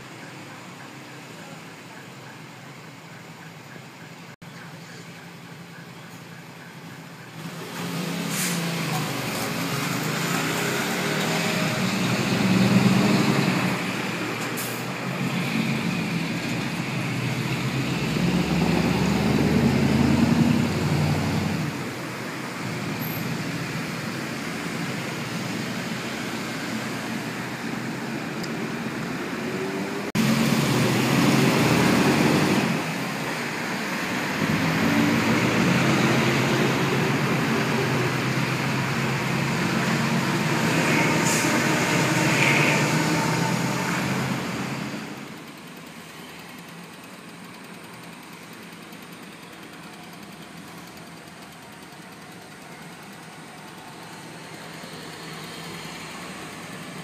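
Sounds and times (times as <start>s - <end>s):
dump trucks passing: 0.0s - 57.0s
street traffic: 0.0s - 57.0s.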